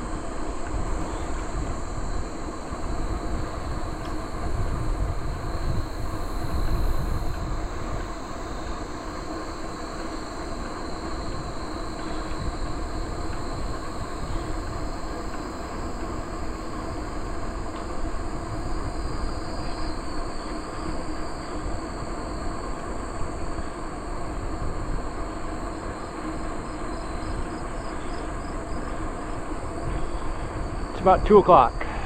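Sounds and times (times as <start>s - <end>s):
bicycle rolling on trail: 0.0s - 32.0s.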